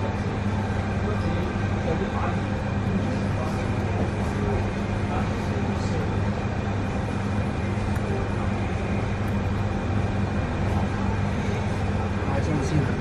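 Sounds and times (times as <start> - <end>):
faint steady whine: 0.0 - 13.0
kitchen machinery hum: 0.0 - 13.0.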